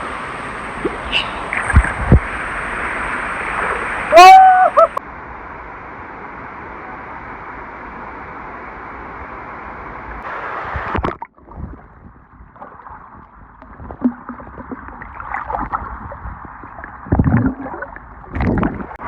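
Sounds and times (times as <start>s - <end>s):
uneven water noise: 0.0s - 19.0s.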